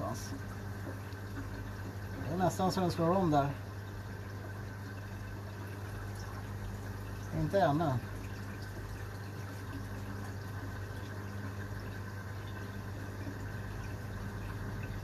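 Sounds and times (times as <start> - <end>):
low hum of pumps: 0.0 - 15.0
running water: 0.0 - 15.0.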